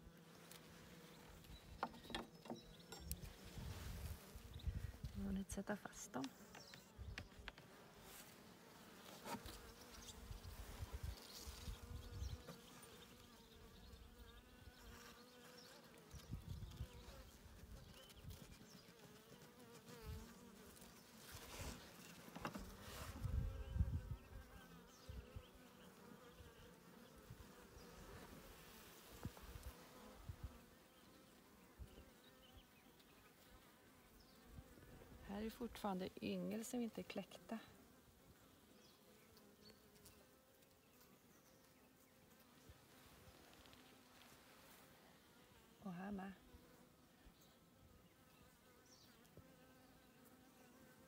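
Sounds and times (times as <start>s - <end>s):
honeybees buzzing: 0.0s - 43.0s.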